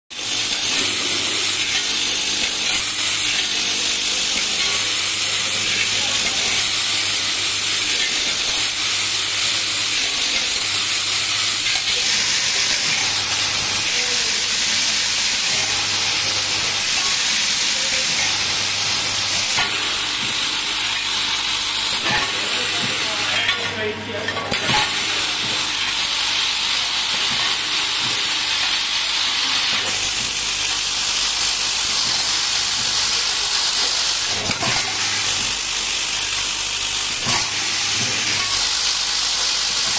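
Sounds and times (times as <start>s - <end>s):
metal parts rattling in bowls: 4.3s - 23.6s, 24.3s - 39.9s.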